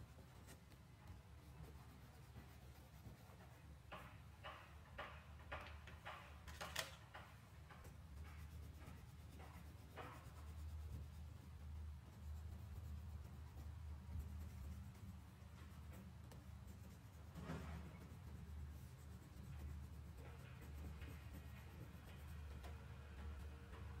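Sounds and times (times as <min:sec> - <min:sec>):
crayon scribbling on paper: 0:00.0 - 0:03.7, 0:07.8 - 0:23.5.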